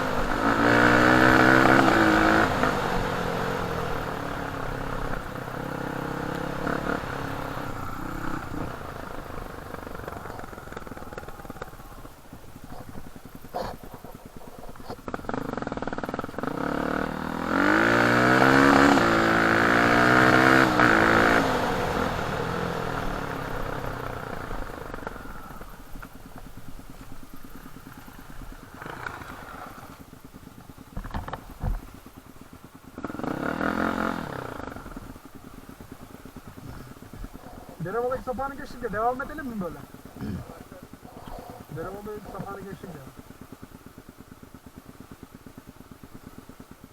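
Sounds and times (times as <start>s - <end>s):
dirt bike engine revving: 0.0s - 46.8s.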